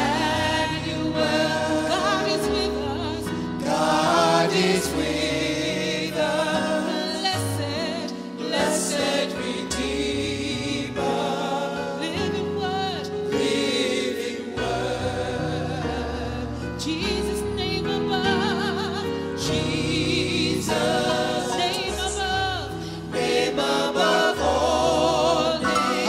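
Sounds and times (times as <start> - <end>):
electric keyboard: 0.0 - 26.0
singers singing gospel song: 0.0 - 26.0.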